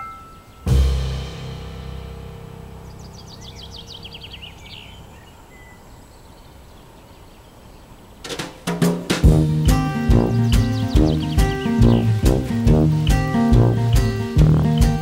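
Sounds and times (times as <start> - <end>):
songbird trill: 0.0 - 8.4, 9.3 - 15.0.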